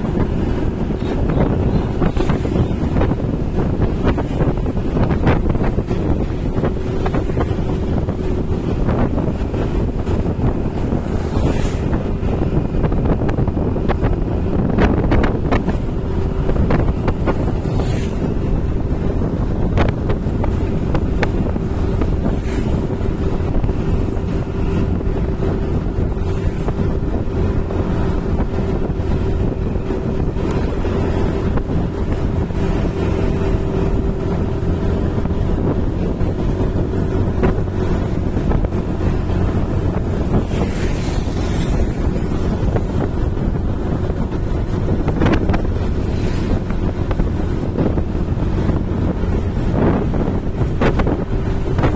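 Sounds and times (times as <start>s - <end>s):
vehicle drone: 0.0s - 51.9s
wind buffeting microphone: 0.0s - 51.9s.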